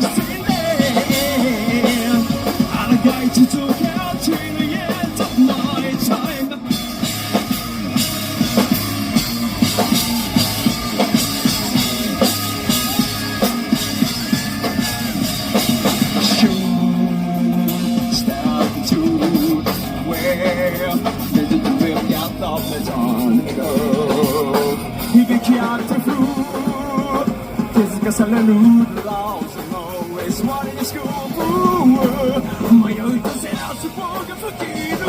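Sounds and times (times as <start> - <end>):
live rock band playing: 0.0 - 35.0
wavering lead guitar line: 0.0 - 35.0.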